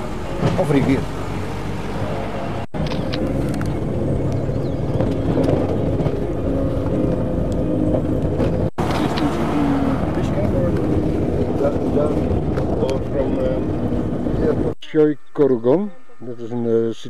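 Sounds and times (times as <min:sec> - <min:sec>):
road noise: 0:00.0 - 0:17.0
vehicle engine: 0:00.0 - 0:17.0.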